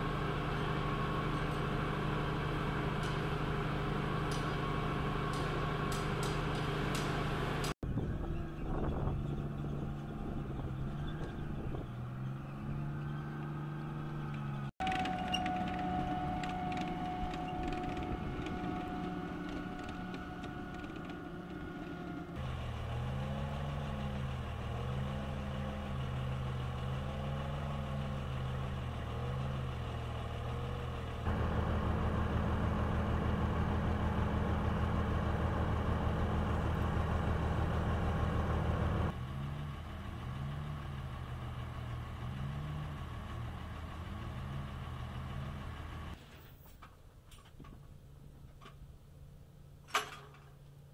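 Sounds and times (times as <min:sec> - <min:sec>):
tracked vehicle diesel engines: 0:00.0 - 0:50.9.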